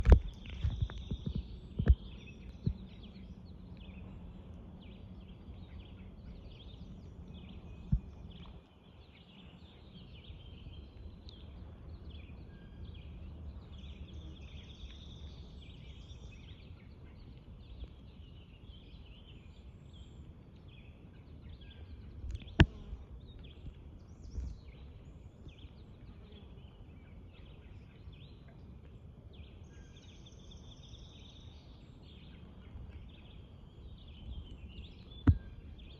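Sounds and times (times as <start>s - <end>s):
birds chirping: 0.0s - 35.9s
outdoor noise: 0.0s - 35.9s.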